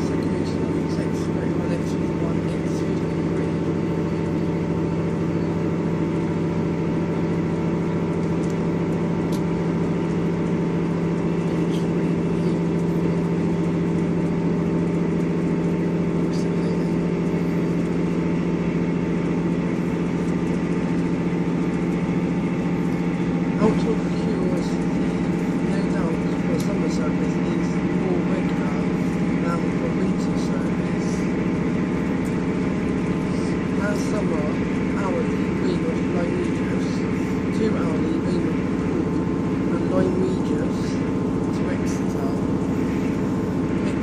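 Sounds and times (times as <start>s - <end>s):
track rumble: 0.0s - 44.0s
train diesel engine droning: 0.0s - 44.0s.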